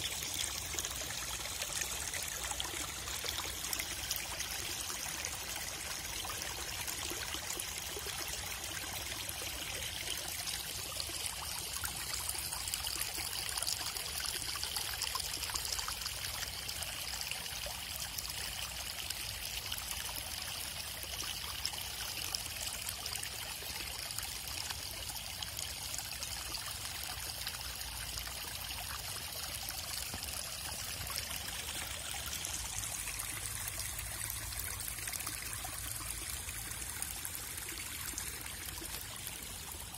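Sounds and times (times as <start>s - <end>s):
rainwater running and trickling: 0.0s - 39.9s.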